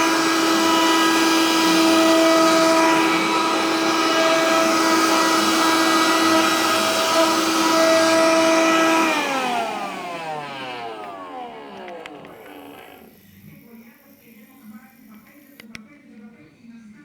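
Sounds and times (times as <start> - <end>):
motor winding down: 0.0 - 15.5
vacuum cleaner whining: 0.0 - 15.8.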